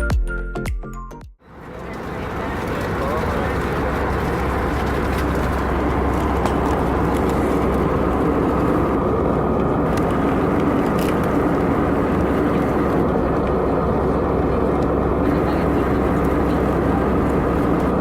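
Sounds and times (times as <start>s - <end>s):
airplane cabin engine noise: 1.4s - 18.0s.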